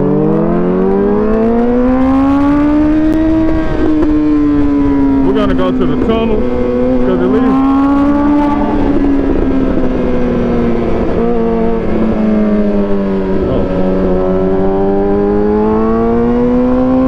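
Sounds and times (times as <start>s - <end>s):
motorcycle engine cruising: 0.0s - 17.0s
wind rumble: 0.0s - 17.0s.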